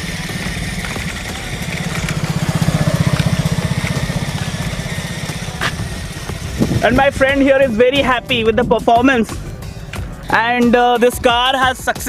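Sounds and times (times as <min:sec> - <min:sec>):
engine running at low revs: 0:00.0 - 0:10.2.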